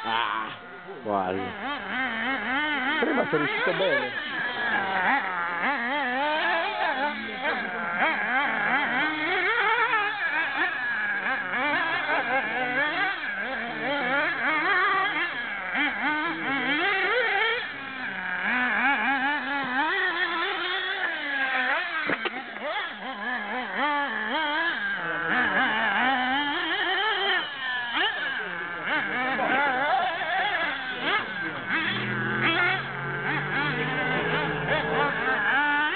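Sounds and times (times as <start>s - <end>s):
small nitro engine buzzing: 0.0s - 35.9s.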